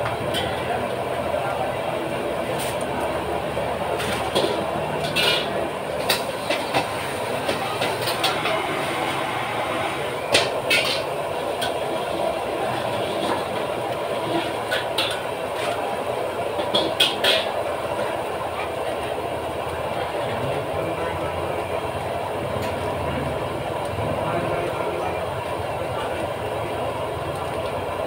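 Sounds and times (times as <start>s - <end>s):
gas burner roar: 0.0s - 28.0s.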